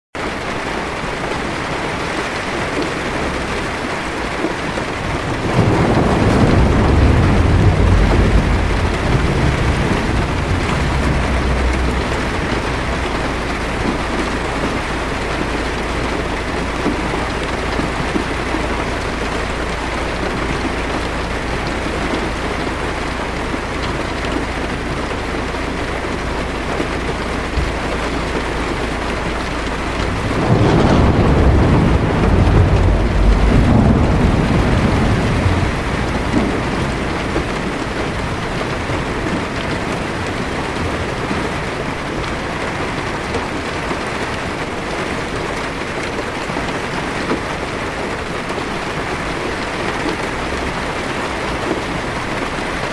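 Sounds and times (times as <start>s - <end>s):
heavy rain on car roof: 0.2s - 52.9s
low thunder rumble: 2.3s - 45.9s.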